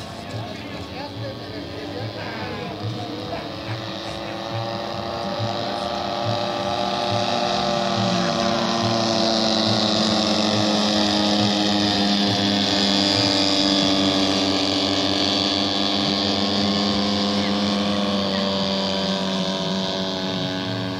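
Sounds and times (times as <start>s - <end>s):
model airplane engines buzzing: 0.0s - 20.9s.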